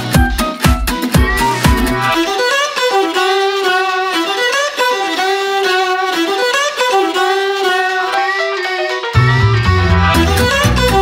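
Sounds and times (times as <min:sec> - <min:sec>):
lively violin melody: 0:01.2 - 0:11.0.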